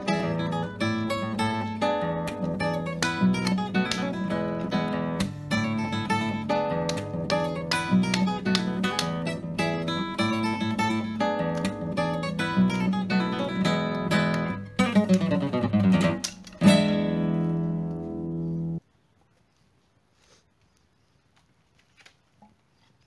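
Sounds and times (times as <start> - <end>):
acoustic guitar strumming chords: 0.0 - 18.8.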